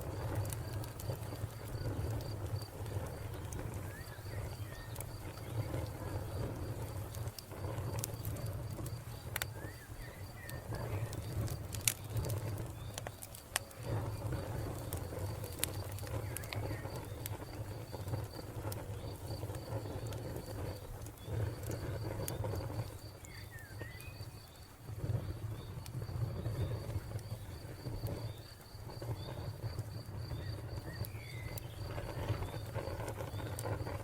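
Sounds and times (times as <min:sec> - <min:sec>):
wood fire crackling and popping: 0:00.0 - 0:34.0
cricket chirping: 0:00.1 - 0:34.0.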